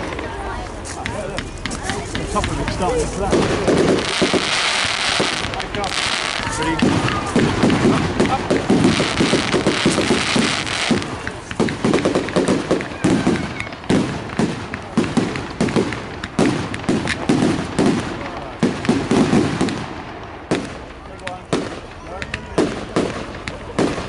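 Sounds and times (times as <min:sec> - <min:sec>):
crowd voices: 0:00.0 - 0:24.0
fireworks bangs and crackles: 0:00.0 - 0:24.0.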